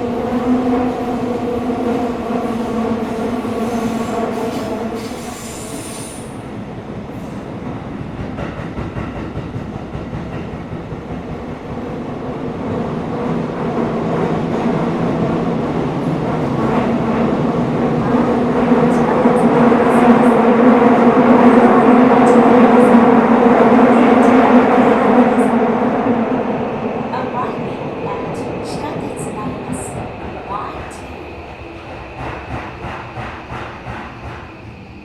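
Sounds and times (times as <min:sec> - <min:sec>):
subway train rumble: 0:00.0 - 0:35.0.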